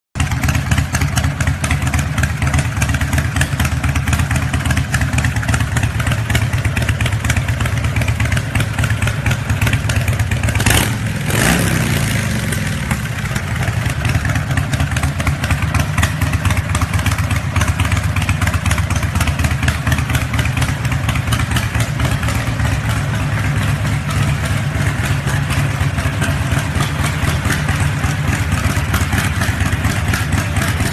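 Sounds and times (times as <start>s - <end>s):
motorcycle engine idling: 0.2s - 30.9s.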